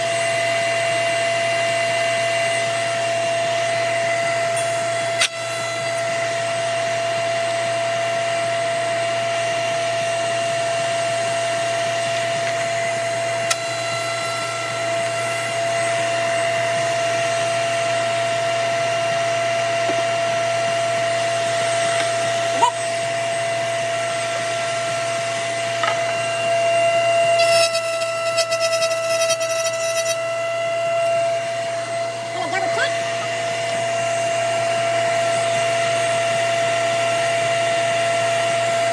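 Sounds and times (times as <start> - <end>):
router whining: 0.0 - 38.9.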